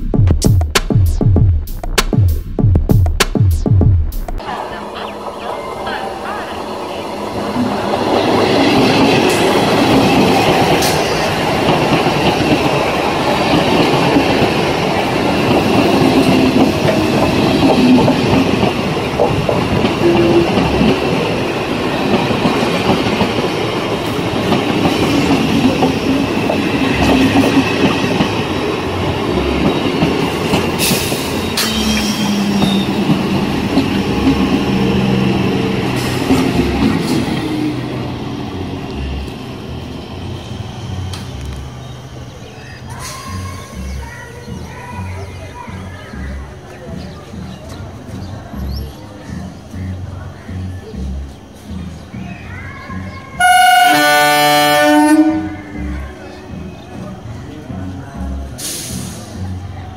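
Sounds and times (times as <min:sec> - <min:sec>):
train wheels rumbling on rails: 0:04.3 - 0:59.9.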